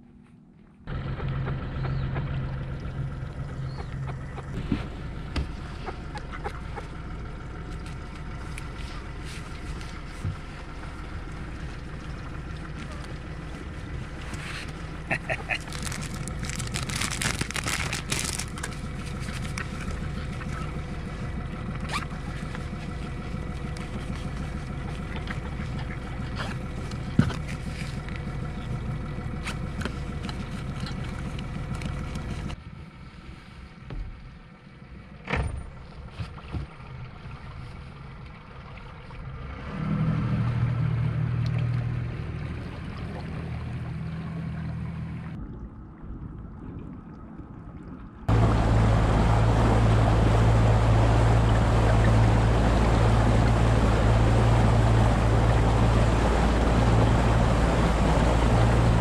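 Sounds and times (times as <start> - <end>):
engine humming: 0.0 - 45.6, 48.2 - 59.0.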